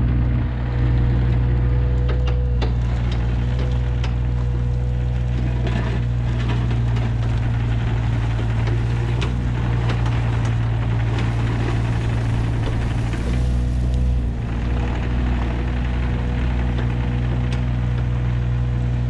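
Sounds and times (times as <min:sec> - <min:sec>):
excavator diesel engine running: 0:00.0 - 0:19.0
steady whine: 0:00.0 - 0:19.0.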